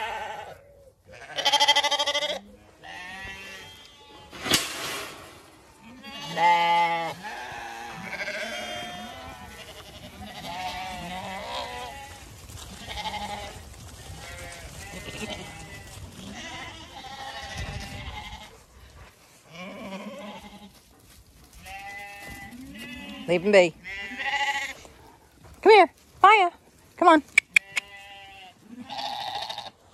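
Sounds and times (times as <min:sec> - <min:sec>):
sheep bleating: 0:00.0 - 0:04.3, 0:05.8 - 0:18.6, 0:19.5 - 0:20.8, 0:21.6 - 0:24.8, 0:27.4 - 0:29.8.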